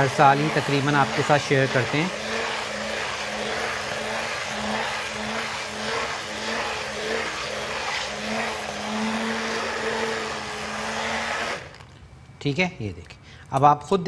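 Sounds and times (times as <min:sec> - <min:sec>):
electric hand blender running: 0:00.0 - 0:12.0.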